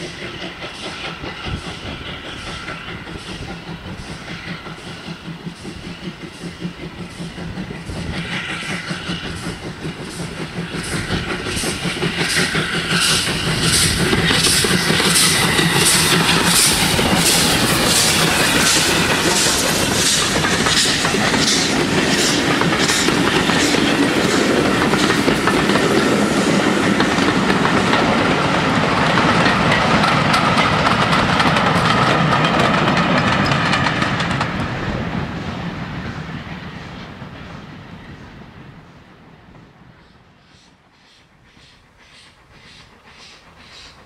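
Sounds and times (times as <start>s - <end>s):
carriages clickety-clack on rails: 0.0s - 44.0s
steam locomotive chuffing: 0.0s - 44.0s.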